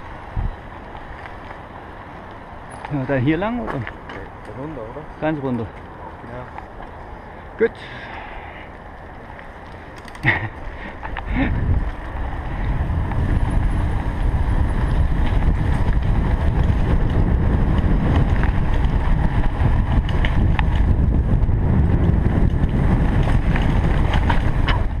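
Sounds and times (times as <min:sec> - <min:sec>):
bike clicks and rattles: 0:00.0 - 0:25.0
wind buffeting microphone: 0:00.0 - 0:25.0.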